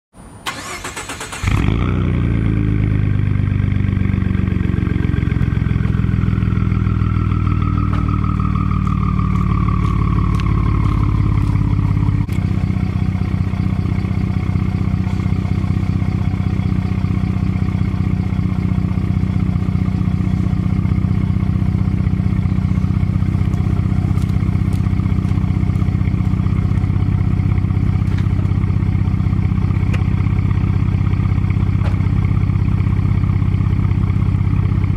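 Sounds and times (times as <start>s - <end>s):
truck engine starting and idling: 0.2s - 34.9s
faint whine: 5.4s - 34.9s.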